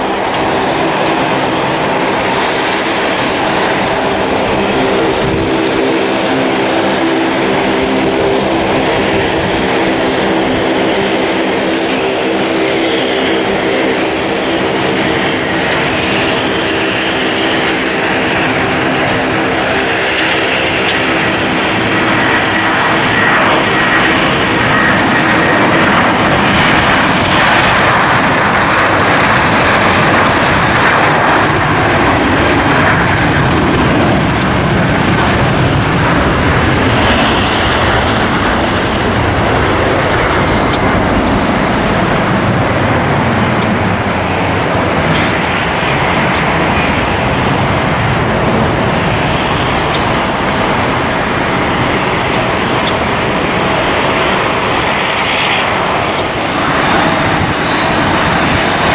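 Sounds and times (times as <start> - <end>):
jet engines: 0.0 - 58.9
wind on microphone: 0.0 - 58.9.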